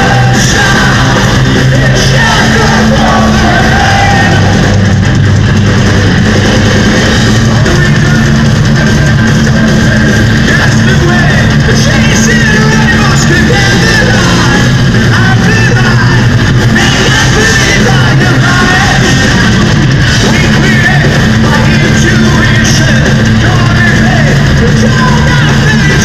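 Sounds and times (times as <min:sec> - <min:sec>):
lead vocals singing: 0:00.0 - 0:05.0, 0:07.4 - 0:26.0
metal band playing live: 0:00.0 - 0:26.0.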